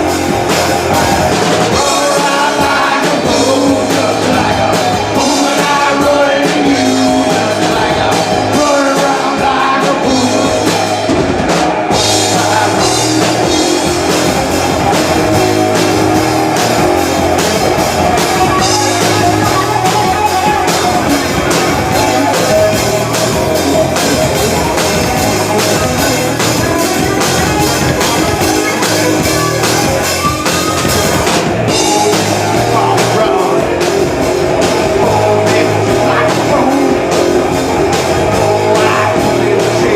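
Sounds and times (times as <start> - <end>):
drum kit: 0.0 - 39.9
electric guitar: 0.0 - 39.9
live rock band playing: 0.0 - 39.9
person singing: 0.0 - 39.9.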